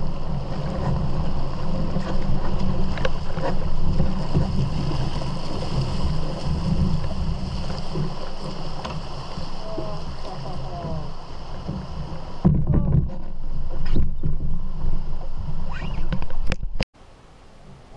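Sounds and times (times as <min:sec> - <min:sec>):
water rushing in rapids: 0:00.0 - 0:16.2
wind rumble on microphone: 0:00.0 - 0:16.8.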